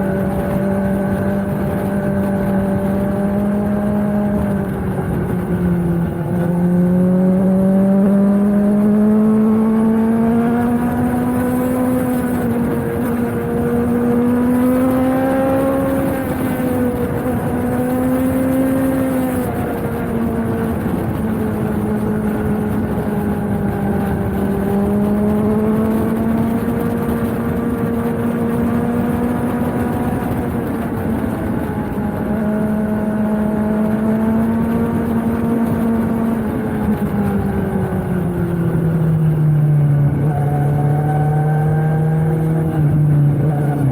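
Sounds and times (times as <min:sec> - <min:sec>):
motorcycle engine at mid revs: 0:00.0 - 0:43.9.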